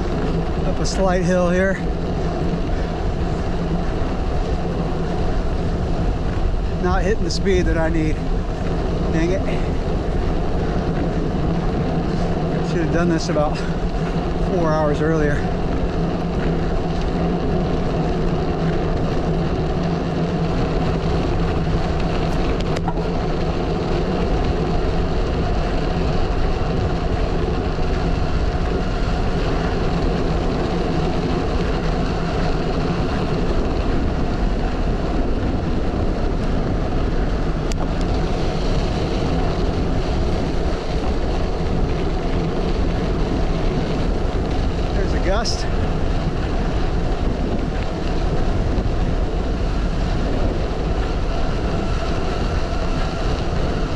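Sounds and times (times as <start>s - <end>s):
bike tyres humming on dirt: 0.0s - 53.9s
wind rushing over microphone: 0.0s - 53.9s.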